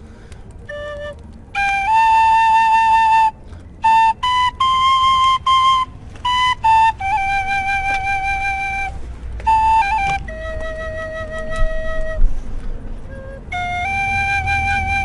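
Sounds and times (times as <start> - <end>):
flute melody: 0.5 - 15.0.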